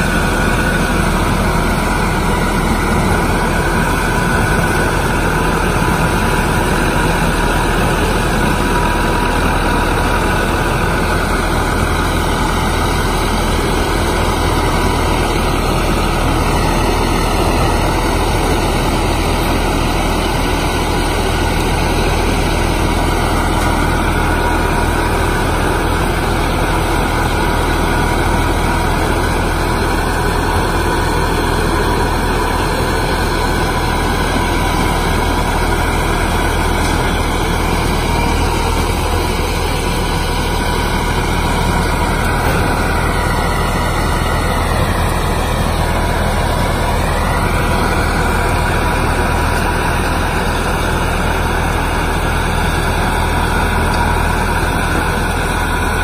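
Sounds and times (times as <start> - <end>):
harvester engine running: 0.0 - 56.0.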